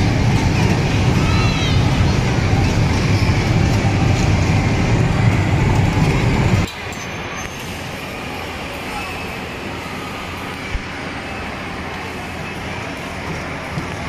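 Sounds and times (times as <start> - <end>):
amusement ride rumbling: 0.0 - 14.0.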